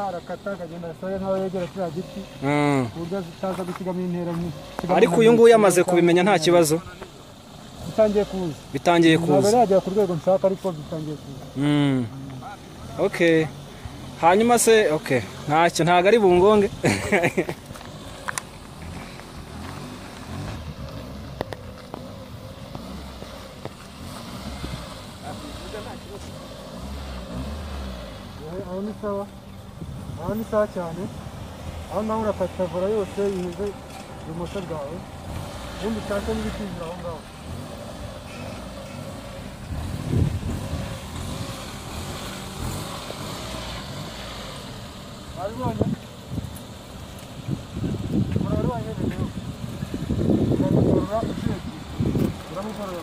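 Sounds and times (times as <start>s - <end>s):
small car engine at low revs: 0.0s - 53.0s.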